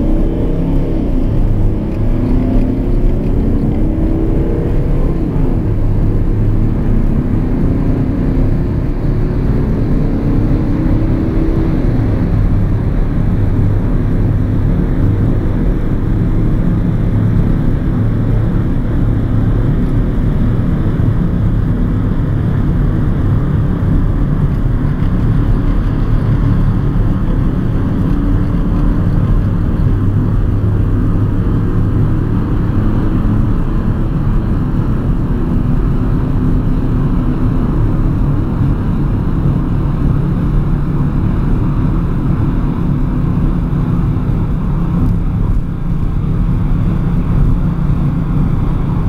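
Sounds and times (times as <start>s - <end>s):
diesel car engine accelerating: 0.0s - 49.0s.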